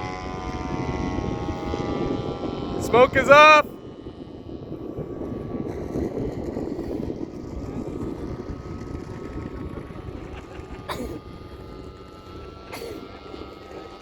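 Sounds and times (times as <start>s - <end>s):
model airplane engine droning: 0.0s - 14.0s.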